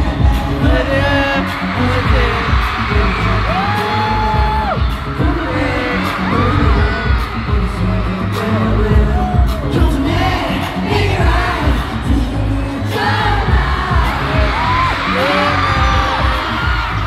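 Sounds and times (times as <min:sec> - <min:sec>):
fans screaming: 0:00.0 - 0:17.0.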